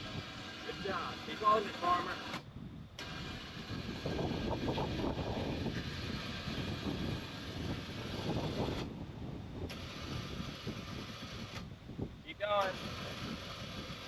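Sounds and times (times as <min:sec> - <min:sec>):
electric winch drone: 0:00.0 - 0:02.4, 0:03.0 - 0:09.0, 0:09.7 - 0:11.7, 0:12.6 - 0:14.0.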